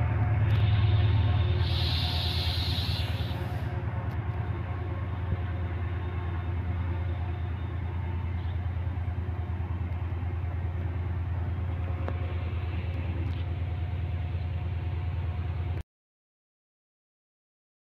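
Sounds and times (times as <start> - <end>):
diesel locomotive engine idling: 0.0 - 15.8
faint hum: 0.0 - 15.8.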